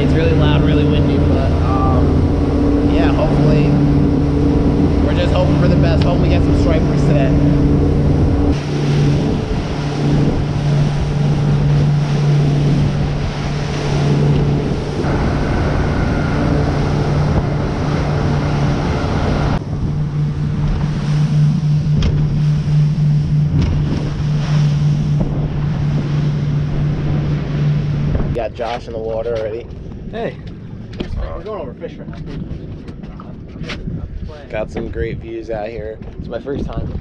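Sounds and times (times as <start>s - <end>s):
water rushing past hull: 0.0s - 32.8s
boat engine running: 0.0s - 37.0s
wind buffeting microphone: 0.0s - 37.0s.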